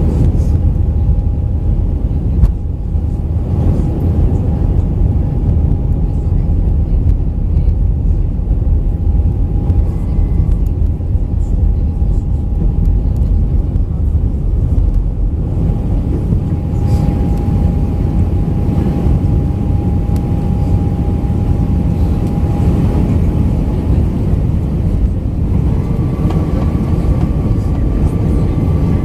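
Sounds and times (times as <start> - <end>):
aircraft engines and airflow rumble: 0.0 - 29.0
steady engine whine: 0.0 - 29.0.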